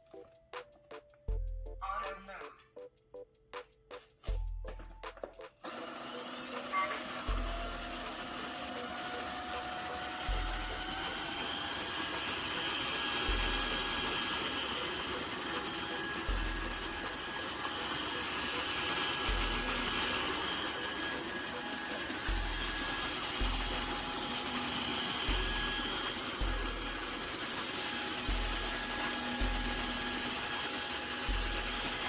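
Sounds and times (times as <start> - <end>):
floor washer motor whining: 5.2 - 32.0.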